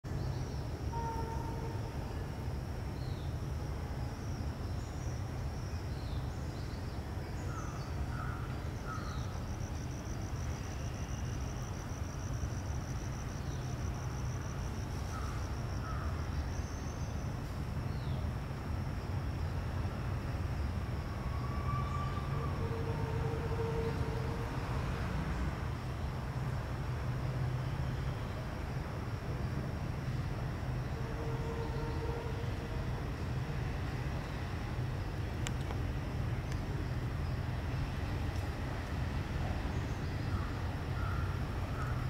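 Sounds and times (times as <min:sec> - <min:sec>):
insect drone: 0:00.1 - 0:42.0.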